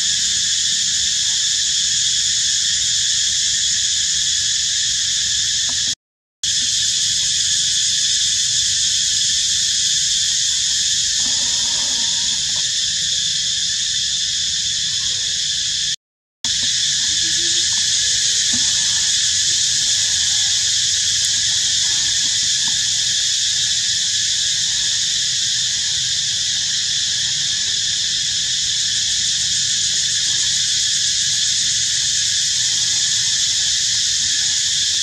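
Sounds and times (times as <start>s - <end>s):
cicadas shrilling: 0.0s - 35.0s.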